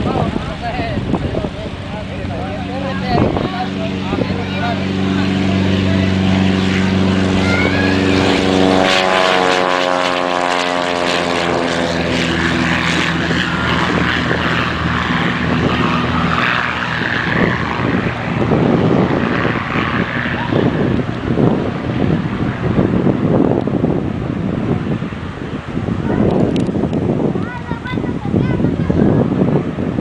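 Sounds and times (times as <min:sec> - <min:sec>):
propeller airplane passing by: 0:00.0 - 0:30.0.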